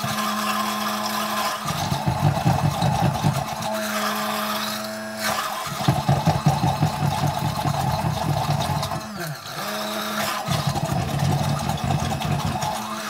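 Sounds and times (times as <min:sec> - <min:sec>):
stick blender motor humming: 0:00.0 - 0:13.0.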